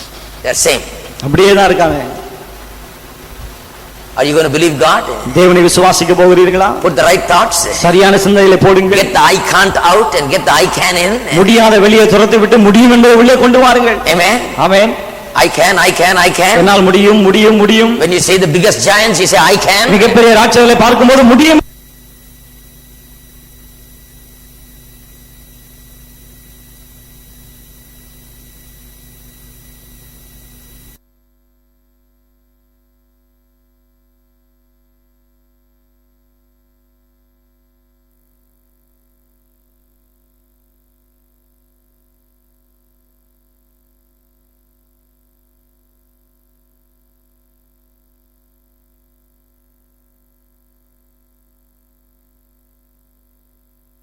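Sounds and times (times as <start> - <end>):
electrical hum and hiss: 0.0 - 54.0.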